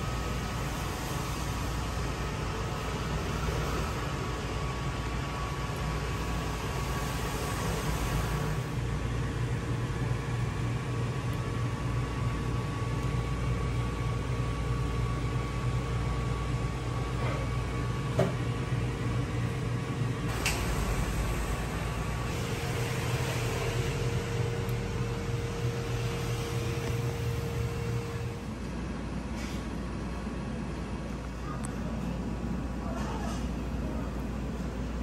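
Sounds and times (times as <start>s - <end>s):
machinery hum and hiss: 0.0s - 35.0s.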